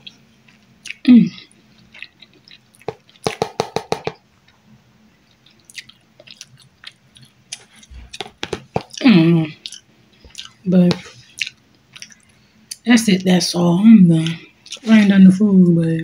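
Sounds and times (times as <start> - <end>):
person chewing food: 0.0 - 12.8, 14.2 - 15.1.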